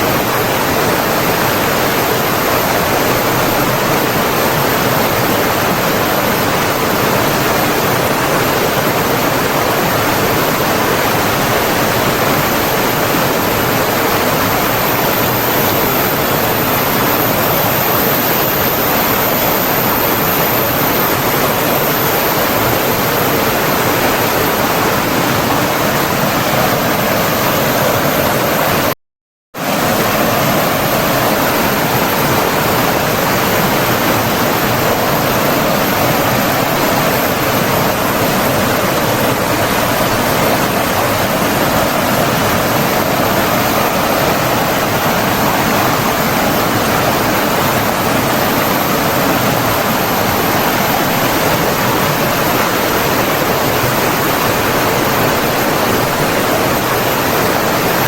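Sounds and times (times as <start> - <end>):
rushing water: 0.0 - 28.9, 29.6 - 58.0.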